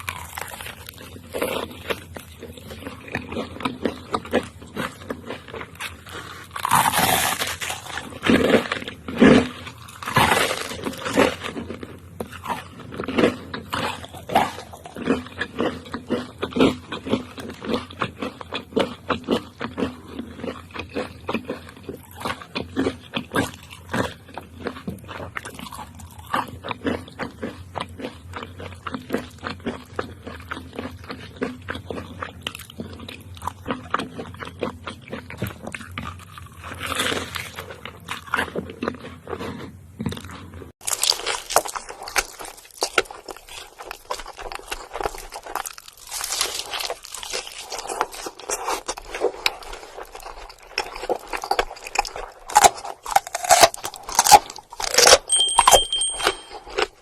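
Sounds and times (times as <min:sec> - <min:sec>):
chewing crispy food: 0:00.0 - 0:57.0.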